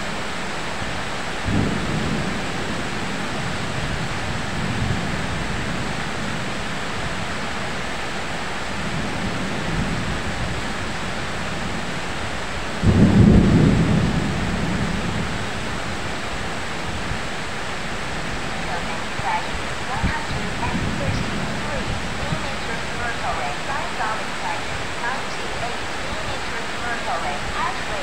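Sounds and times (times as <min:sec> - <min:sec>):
heavy rain pouring: 0:00.0 - 0:28.0
thunder rumble: 0:00.0 - 0:28.0.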